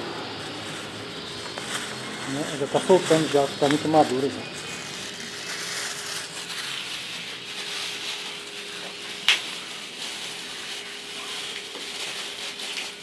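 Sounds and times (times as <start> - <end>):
plastic bag rustling and crinkling: 0.0 - 13.0.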